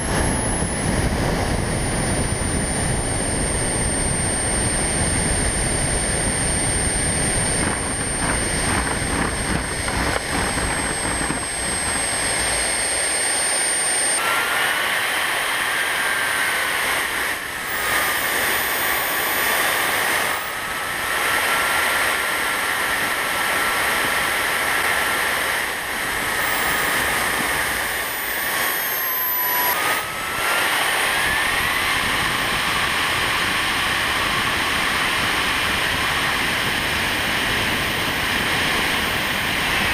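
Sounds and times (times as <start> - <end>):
model airplane motor whine: 0.0 - 39.9
propeller air rushing: 0.0 - 39.9.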